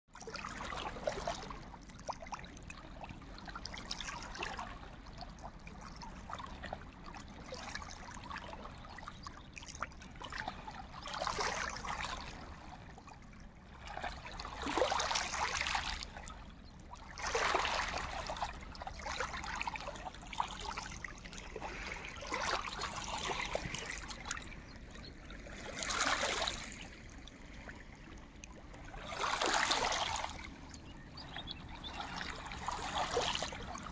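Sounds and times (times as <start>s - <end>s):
small waves lapping on pebbles: 0.2s - 1.9s, 2.6s - 27.9s, 28.9s - 33.9s.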